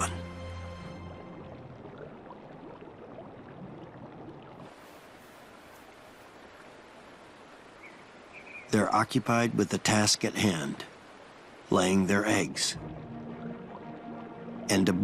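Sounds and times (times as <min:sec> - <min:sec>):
hissy outdoor ambience: 0:00.0 - 0:15.0
stream flowing: 0:00.0 - 0:15.0.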